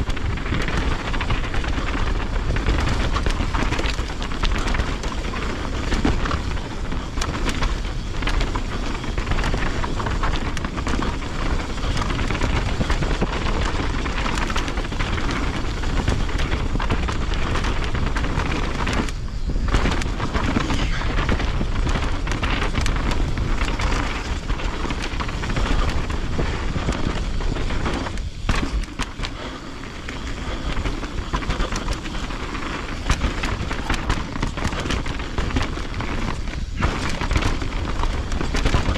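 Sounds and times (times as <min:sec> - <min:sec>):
bike tyres rattling on rough ground: 0:00.0 - 0:38.9
wind rumble on microphone: 0:00.0 - 0:38.9.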